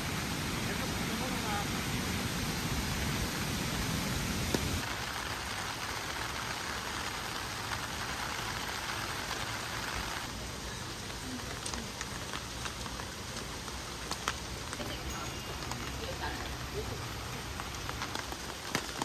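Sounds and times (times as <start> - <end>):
rain hissing on surfaces: 0.0 - 19.0.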